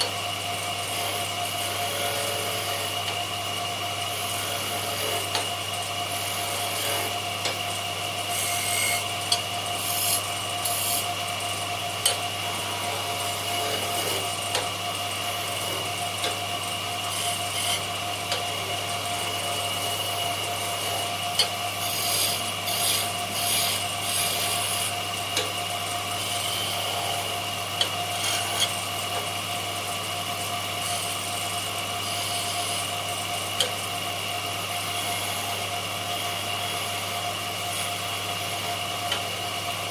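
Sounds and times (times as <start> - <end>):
power tool motor running: 0.0 - 39.9.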